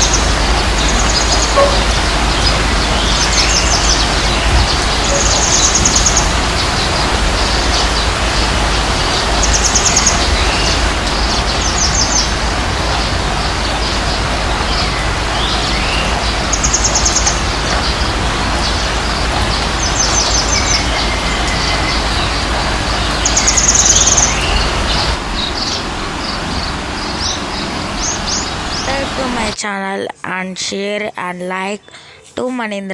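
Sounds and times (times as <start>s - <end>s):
high trilled bird call: 0.0s - 29.6s
steady hiss and low rumble: 0.0s - 29.6s.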